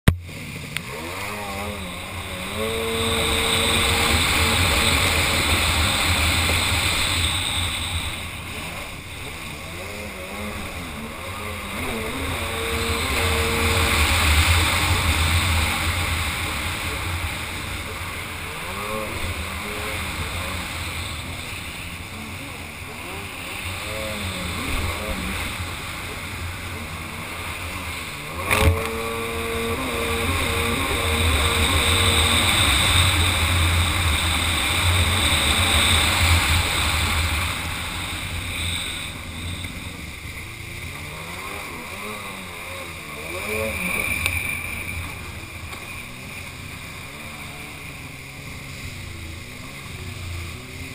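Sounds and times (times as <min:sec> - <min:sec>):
jet ski engine under throttle: 0:00.0 - 0:50.9
water rushing: 0:00.1 - 0:50.9.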